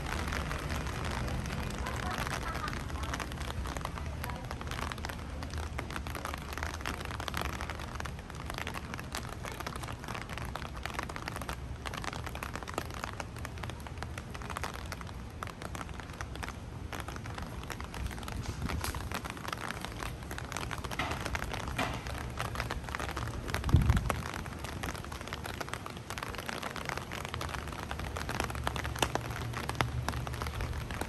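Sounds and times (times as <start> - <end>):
steady rain patter: 0.0 - 31.0.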